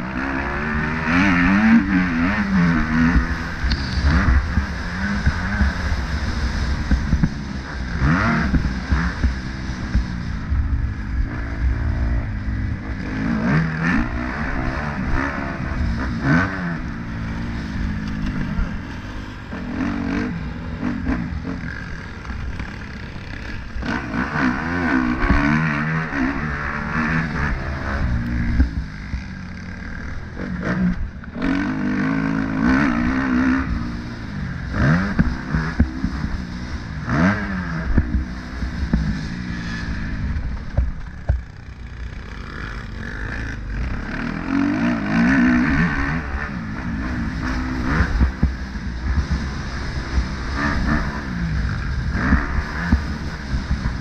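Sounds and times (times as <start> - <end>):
engines revving: 0.0 - 54.0.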